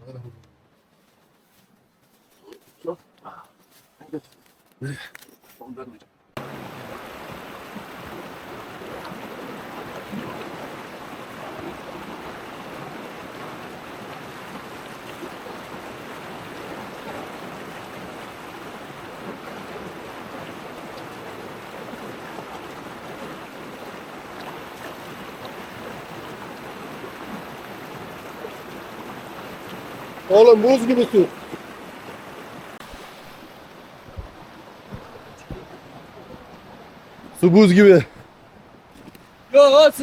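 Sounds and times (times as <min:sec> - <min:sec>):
running water: 0:06.4 - 0:40.0.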